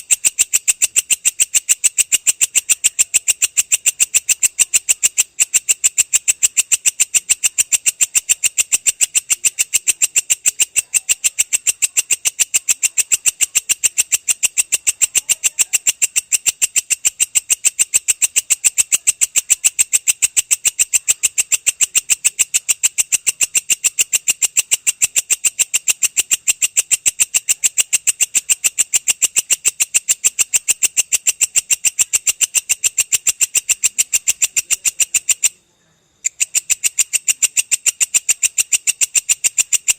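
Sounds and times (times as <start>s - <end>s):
katydid stridulating: 0.0s - 39.9s.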